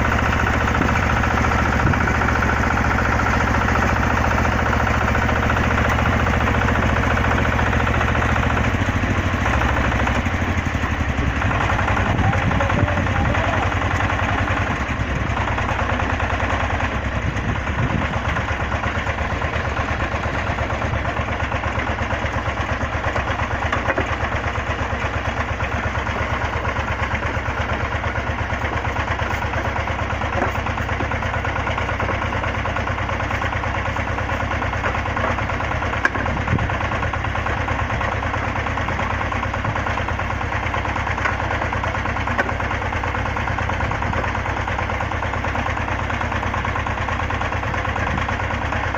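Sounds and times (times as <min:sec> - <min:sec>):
drilling rig engine running: 0:00.0 - 0:48.9.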